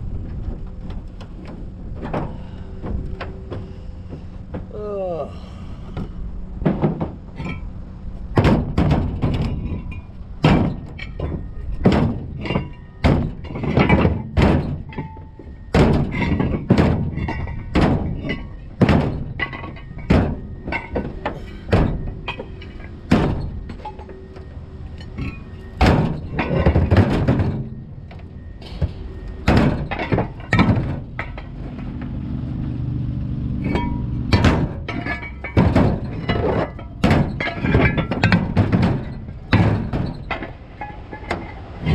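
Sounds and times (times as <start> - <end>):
heavy metal thuds and crunches: 0.0 - 4.8, 5.9 - 32.3, 33.3 - 41.9
steady low rumble: 0.0 - 41.9.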